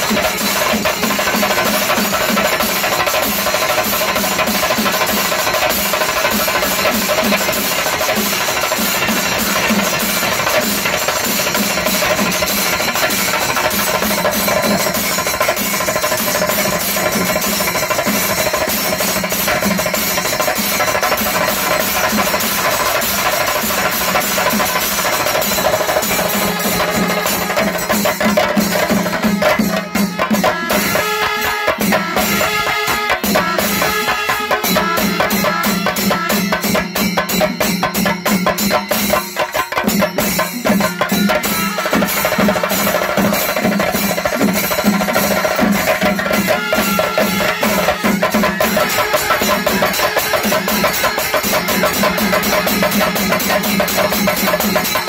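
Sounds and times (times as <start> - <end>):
fast drums and metal percussion: 0.0 - 55.0.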